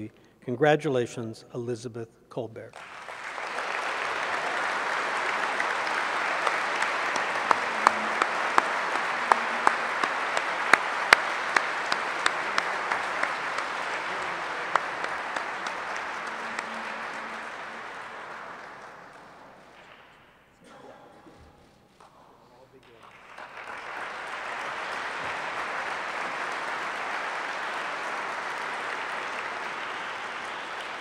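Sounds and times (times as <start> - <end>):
audience applauding: 2.8 - 20.3, 22.7 - 31.0.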